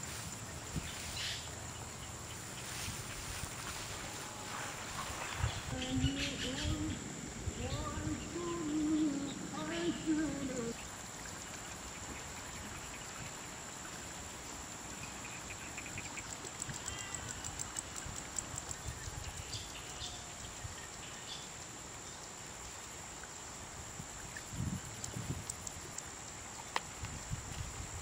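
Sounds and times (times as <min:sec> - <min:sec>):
soft hiss: 0:00.0 - 0:28.0.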